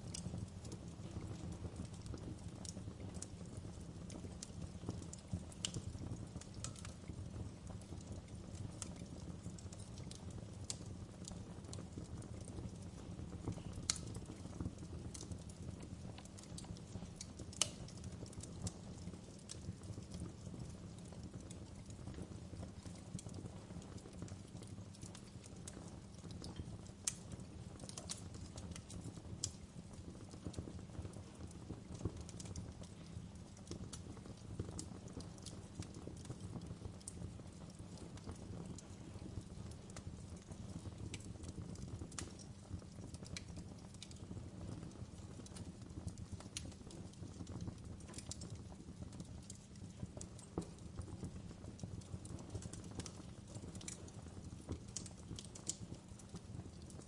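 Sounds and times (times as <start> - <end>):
campfire rumbling: 0.0 - 57.0
fire crackles and pops: 0.0 - 57.0.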